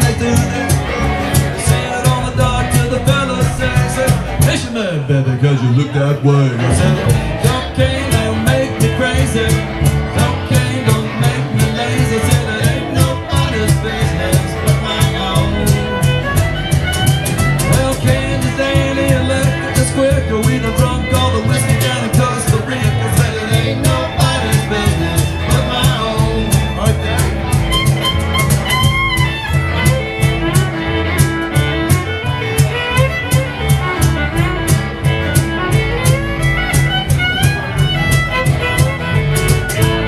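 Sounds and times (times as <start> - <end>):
acoustic band playing: 0.0 - 40.0
cajon beat: 0.0 - 40.0
fiddle lead: 0.0 - 40.0.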